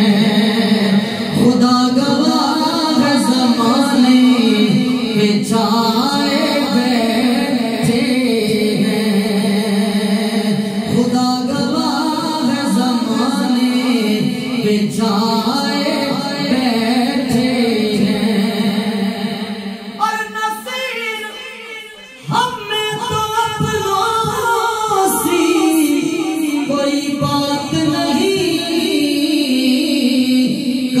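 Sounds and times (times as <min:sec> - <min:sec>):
man singing into a microphone: 0:00.0 - 0:31.0.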